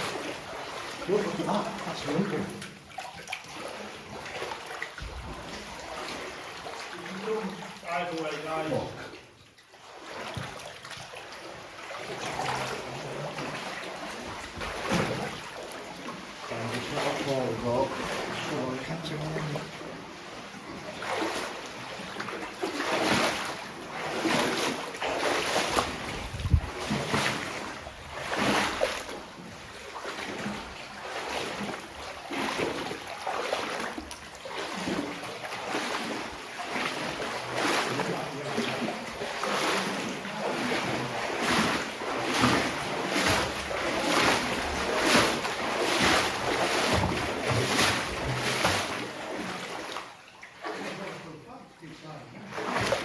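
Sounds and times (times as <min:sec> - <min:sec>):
wading through water sloshing: 0:00.0 - 0:53.0.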